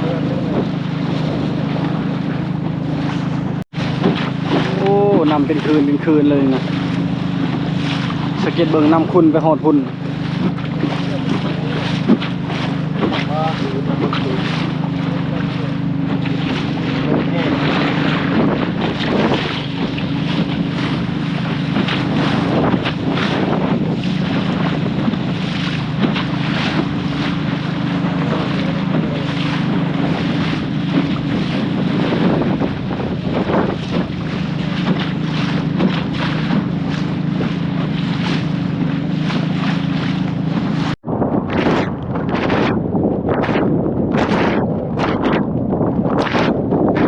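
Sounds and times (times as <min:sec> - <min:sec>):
small boat engine running: 0:00.0 - 0:47.0
water splashing: 0:00.0 - 0:47.0
wind buffeting microphone: 0:00.0 - 0:47.0.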